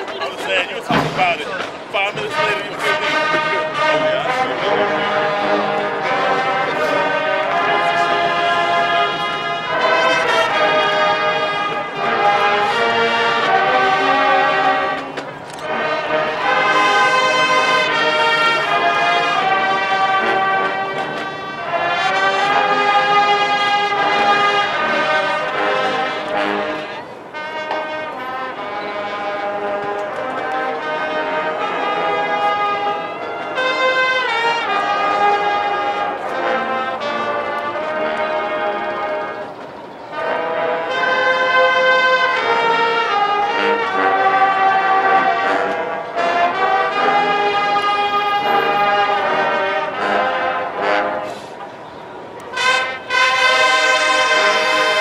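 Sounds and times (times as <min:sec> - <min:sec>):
brass section chords: 0:00.0 - 0:51.6, 0:52.5 - 0:55.0
marching band playing: 0:00.0 - 0:55.0.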